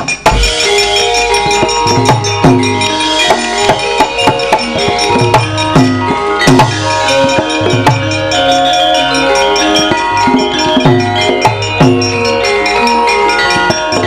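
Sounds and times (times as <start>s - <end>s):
gamelan gong-chime melody: 0.0s - 14.0s
hand-drum strokes: 0.0s - 14.0s.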